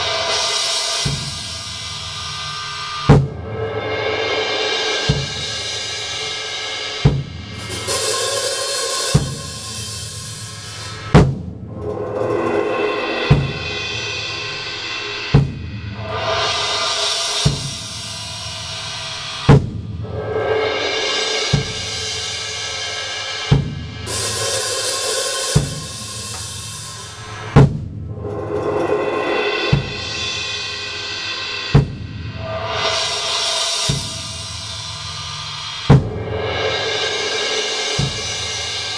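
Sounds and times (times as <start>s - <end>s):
cymbal crashes: 0.0s - 38.9s
drum kit playing steady beat: 0.0s - 38.9s.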